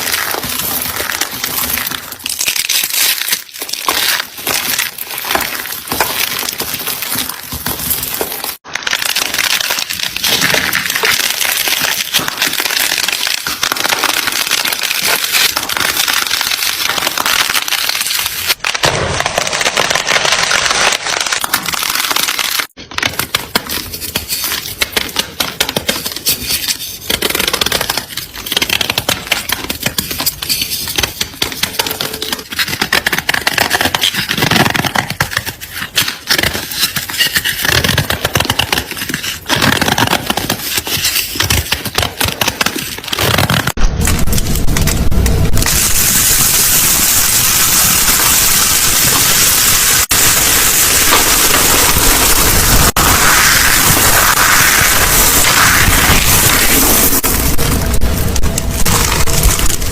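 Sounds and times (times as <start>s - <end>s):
close-up crunching and crackling: 0.0s - 46.0s, 47.1s - 59.9s.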